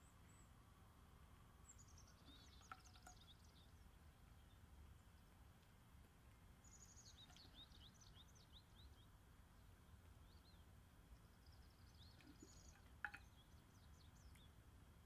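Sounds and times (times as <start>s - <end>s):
faint bird chirps: 0.0s - 0.8s, 1.6s - 5.4s, 6.2s - 14.7s
low steady hum: 0.0s - 15.0s.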